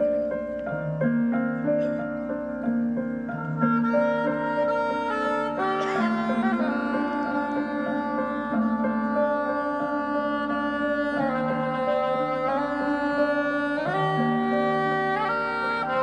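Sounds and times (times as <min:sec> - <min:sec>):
soprano saxophone melody: 0:01.6 - 0:16.0.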